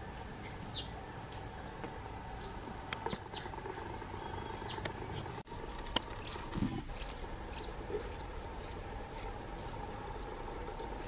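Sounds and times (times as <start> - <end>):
background noise: 0.0 - 11.0
small birds chirping: 0.0 - 11.0.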